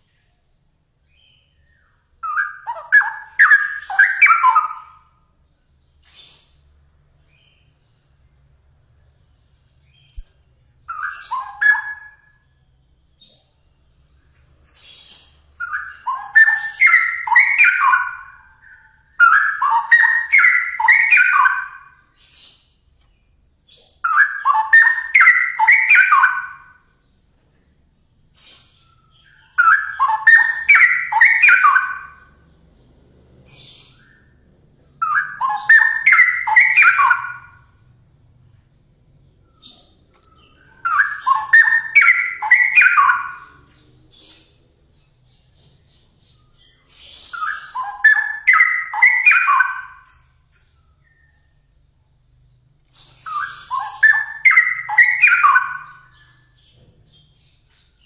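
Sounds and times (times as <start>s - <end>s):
bird warbling song: 0.0s - 58.0s.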